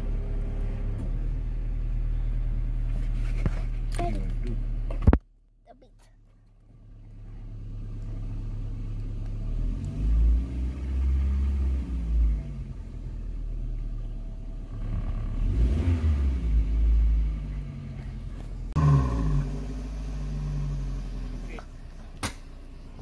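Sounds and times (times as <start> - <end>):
engine revving with throttle blips: 0.0 - 2.9, 6.8 - 23.0
car engine idling: 0.0 - 23.0.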